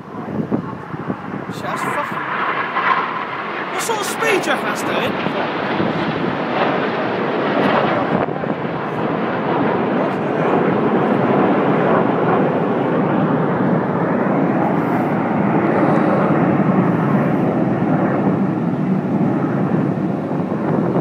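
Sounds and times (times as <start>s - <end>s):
jet aircraft roaring: 0.0s - 21.0s.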